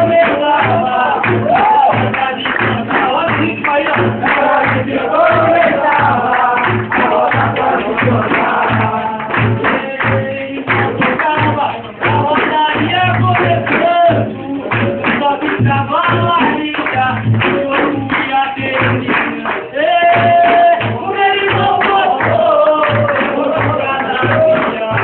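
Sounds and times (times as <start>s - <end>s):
group singing: 0.0s - 25.0s
steady drum beat: 0.0s - 25.0s.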